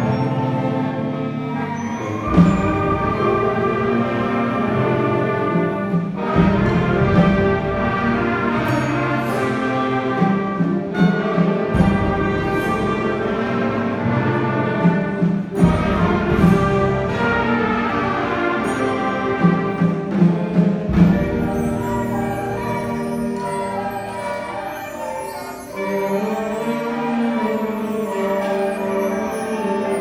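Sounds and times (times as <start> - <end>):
orchestral music sustained chords: 0.0 - 30.0.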